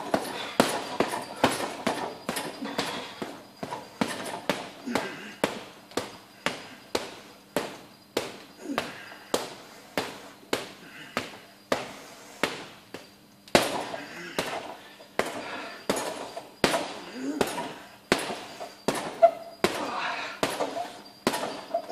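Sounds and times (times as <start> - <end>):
gloves punching heavy bag: 0.0 - 21.9.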